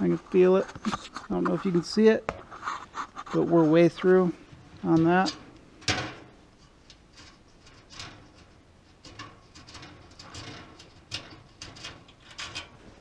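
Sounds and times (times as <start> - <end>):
faint metal scraping: 0.0 - 13.0.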